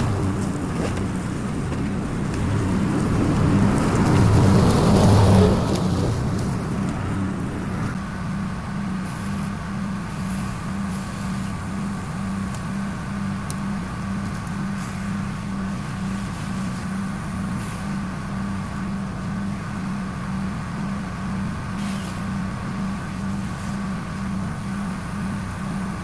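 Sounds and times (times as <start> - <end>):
engine humming steadily: 0.0 - 26.0.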